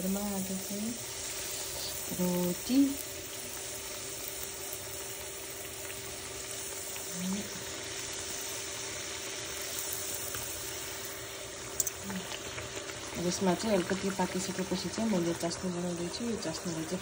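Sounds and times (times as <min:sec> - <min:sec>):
pastries deep-frying in oil: 0:00.0 - 0:17.0.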